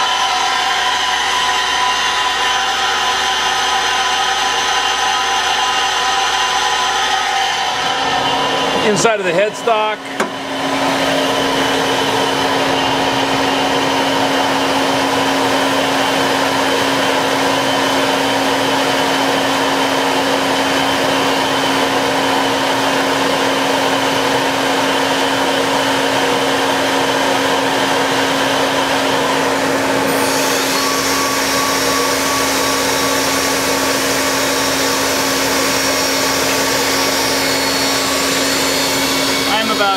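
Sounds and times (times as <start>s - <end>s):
high machine whines: 0.0s - 39.9s
lathe spindle whirring: 0.0s - 39.9s.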